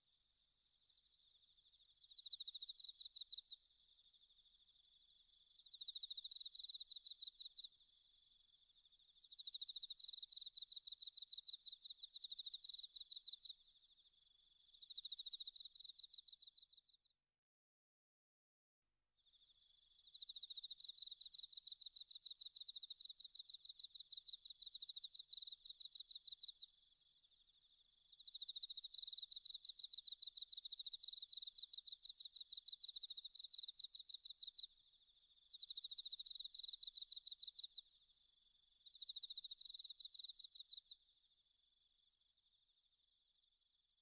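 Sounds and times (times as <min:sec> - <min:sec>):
crickets chirping: 0:00.0 - 0:16.8, 0:19.2 - 0:44.0.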